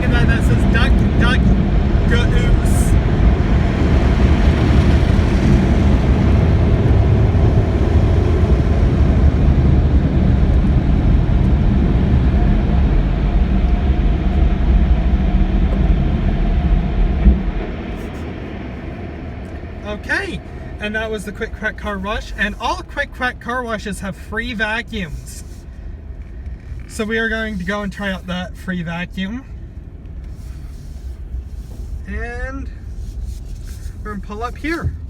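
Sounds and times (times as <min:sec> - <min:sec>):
car wash air dryers blowing: 0:00.0 - 0:35.0.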